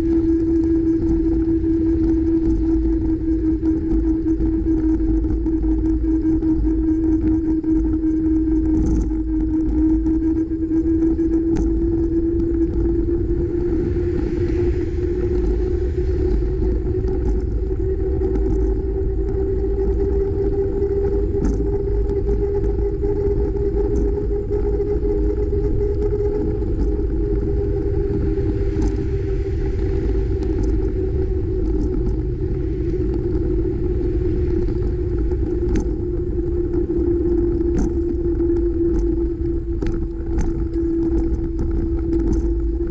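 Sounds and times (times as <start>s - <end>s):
bicycle hum: 0.0s - 42.9s
faint ticks: 0.0s - 42.9s
wind rumble on microphone: 0.0s - 42.9s.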